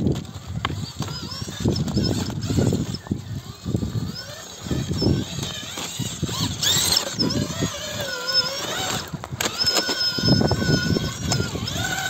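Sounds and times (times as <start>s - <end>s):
electric motor whine: 0.0s - 12.0s
tyres crunching on gravel: 0.0s - 12.0s.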